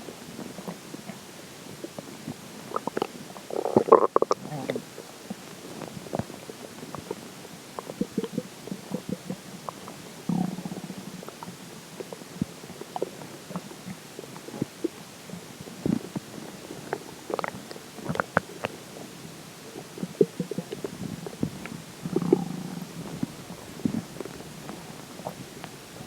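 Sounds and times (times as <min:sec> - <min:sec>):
low stomach rumble: 0:00.2 - 0:26.0
stomach gurgling: 0:00.2 - 0:26.0.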